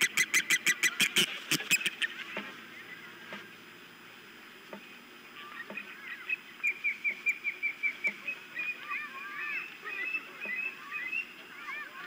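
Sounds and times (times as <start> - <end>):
ospreys calling: 0.0 - 4.2, 4.9 - 12.0.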